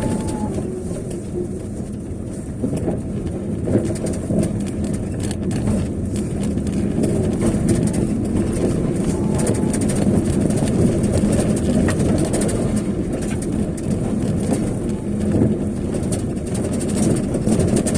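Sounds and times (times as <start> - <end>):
vehicle engine and tyres rumbling: 0.0 - 17.9.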